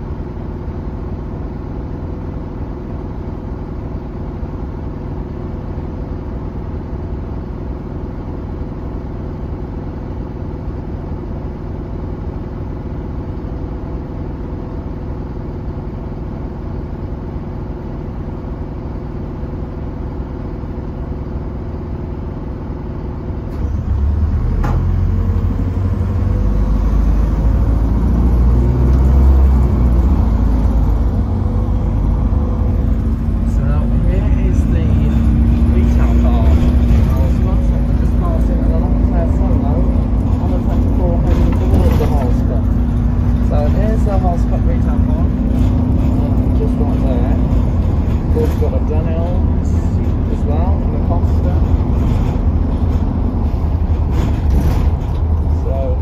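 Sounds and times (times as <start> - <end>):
bus engine: 0.0 - 56.0.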